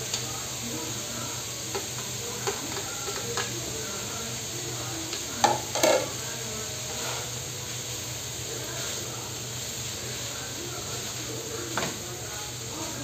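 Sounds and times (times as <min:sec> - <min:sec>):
food sizzling in wok: 0:00.0 - 0:13.0.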